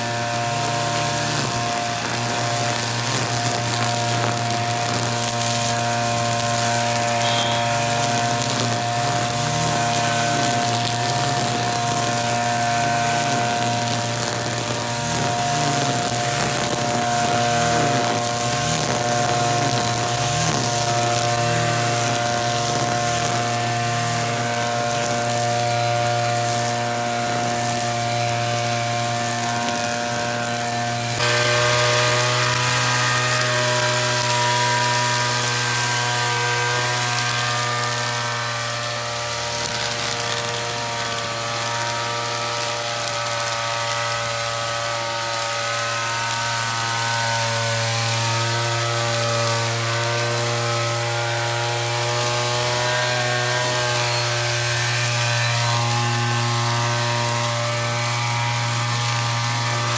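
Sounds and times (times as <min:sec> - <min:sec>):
brush cutter engine running: 0:00.0 - 0:59.9
trimmer line cutting grass: 0:00.0 - 0:59.9.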